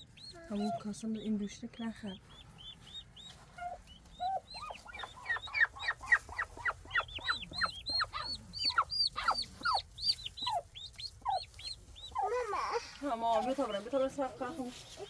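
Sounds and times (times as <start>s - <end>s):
poultry cheeping and calling: 0.0s - 15.0s.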